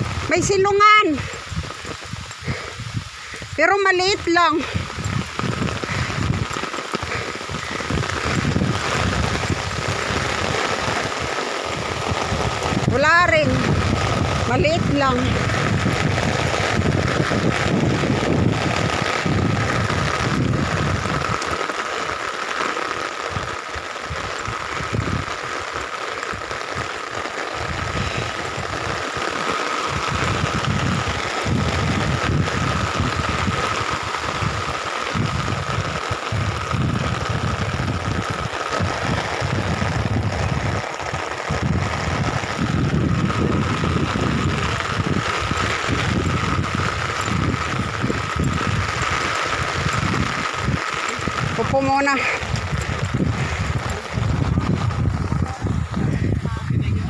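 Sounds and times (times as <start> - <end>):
rain pattering on umbrella: 0.0 - 57.0
wind buffeting microphone: 0.0 - 57.0.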